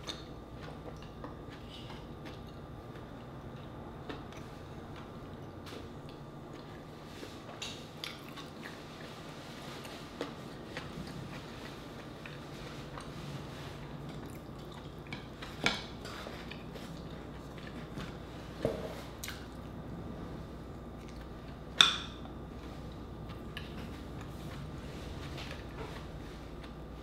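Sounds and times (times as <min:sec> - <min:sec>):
wet chewing and mouth sounds: 0:00.0 - 0:18.2, 0:19.0 - 0:19.8, 0:20.8 - 0:26.9.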